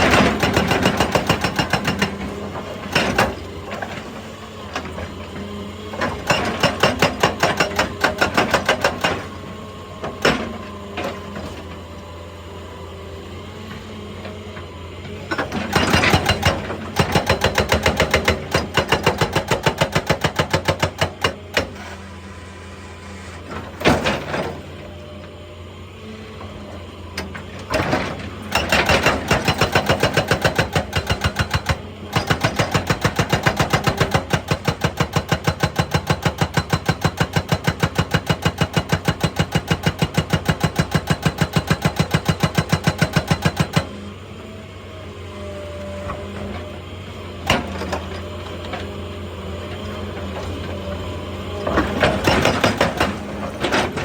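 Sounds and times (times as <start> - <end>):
hydraulic breaker hammering rock: 0.0 - 11.8, 13.7 - 22.1, 26.4 - 44.1, 47.4 - 49.0, 49.6 - 54.0
excavator engine running: 0.0 - 54.0.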